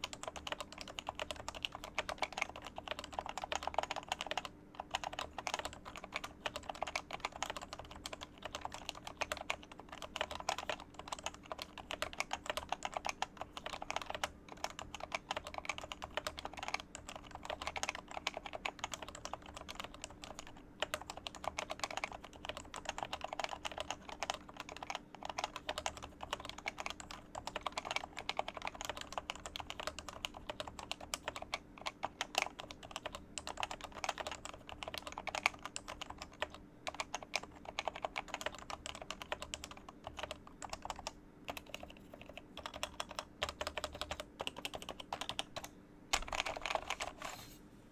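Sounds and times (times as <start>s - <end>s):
fast keyboard typing: 0.0s - 47.2s.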